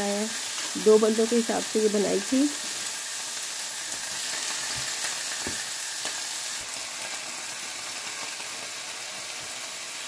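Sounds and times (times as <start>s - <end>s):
jalapeno slices sizzling in a pan: 0.0s - 10.0s.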